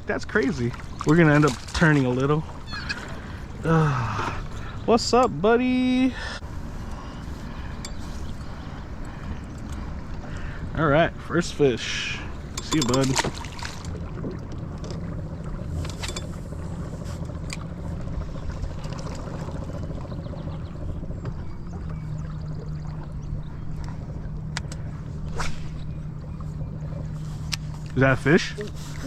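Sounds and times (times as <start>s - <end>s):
boat motor humming: 0.0s - 29.0s
water noise: 0.0s - 29.0s
wind: 0.0s - 29.0s.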